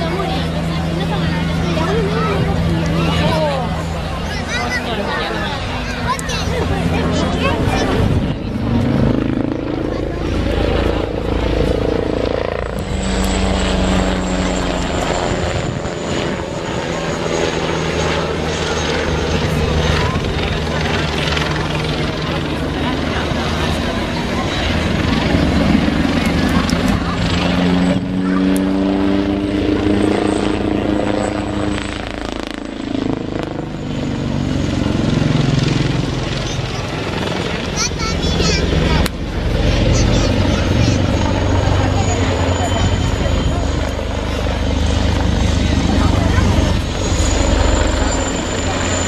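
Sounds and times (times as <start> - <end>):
helicopter rotor thrum: 0.0 - 49.0
high turbine whine: 0.0 - 49.0.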